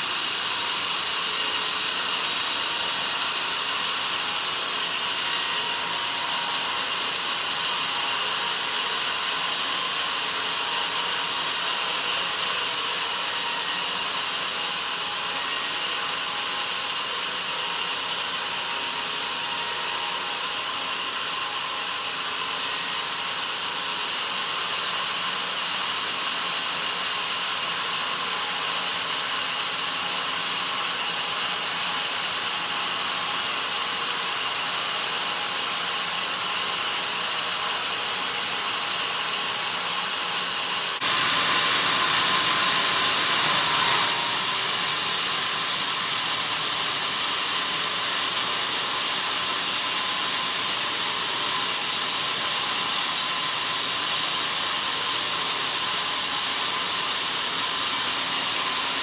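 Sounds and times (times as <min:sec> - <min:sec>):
band saw cutting through log: 0:00.0 - 0:59.0.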